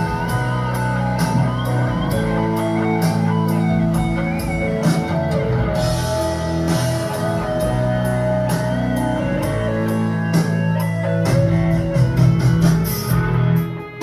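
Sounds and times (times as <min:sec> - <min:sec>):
drum kit steady beat: 0:00.0 - 0:14.0
electric guitar melody: 0:00.0 - 0:14.0.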